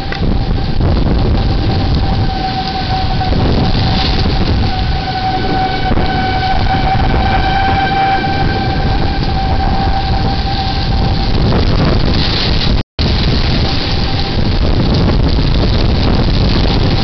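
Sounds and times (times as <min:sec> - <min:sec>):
rain: 0:00.0 - 0:17.0
warning siren steady tone: 0:00.0 - 0:17.0
wind buffeting microphone: 0:00.0 - 0:17.0.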